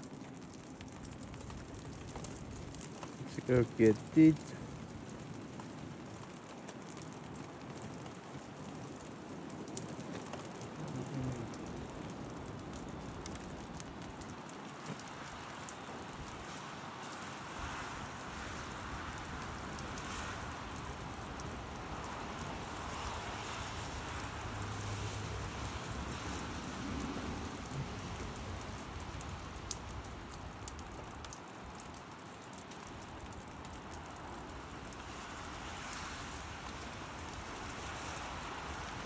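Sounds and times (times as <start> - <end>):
light drizzle falling: 0.0 - 39.0.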